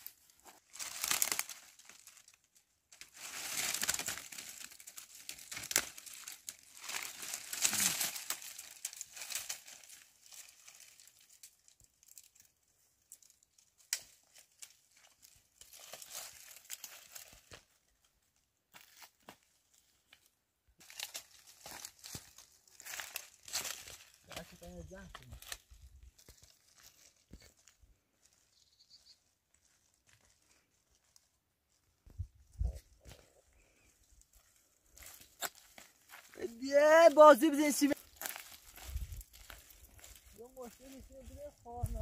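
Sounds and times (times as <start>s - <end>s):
dry branches rustling and crackling: 0.0s - 42.0s.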